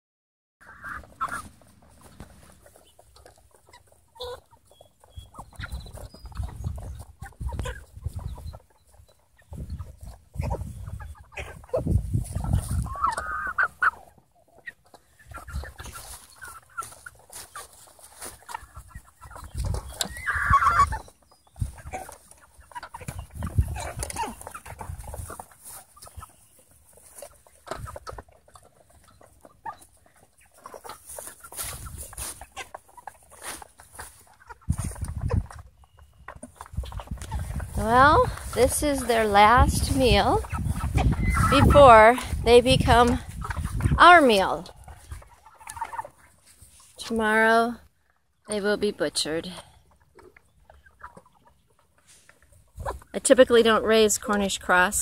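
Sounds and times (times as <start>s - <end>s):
chickens calling: 0.6s - 55.0s.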